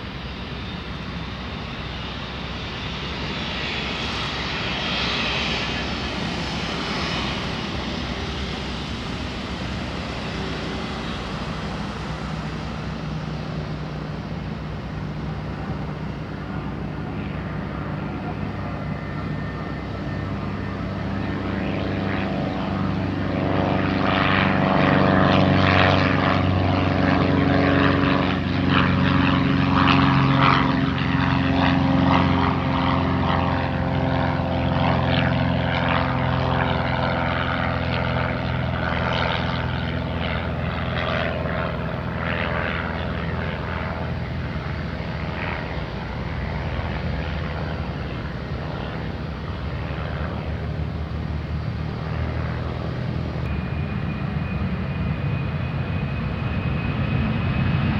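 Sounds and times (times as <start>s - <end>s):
aircraft engines droning: 0.0s - 57.9s.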